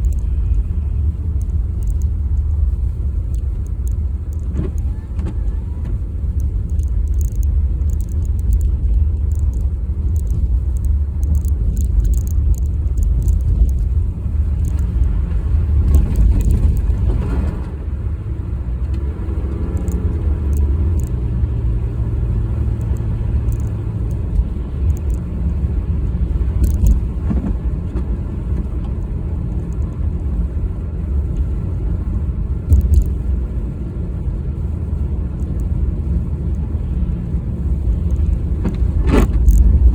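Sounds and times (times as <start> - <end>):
car engine and tyre rumble: 0.0 - 39.9
low hum: 0.0 - 39.9.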